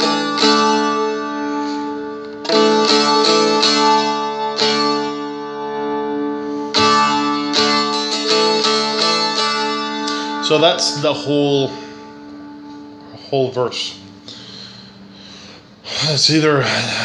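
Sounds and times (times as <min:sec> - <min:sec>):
dulcimer strumming: 0:00.0 - 0:14.7.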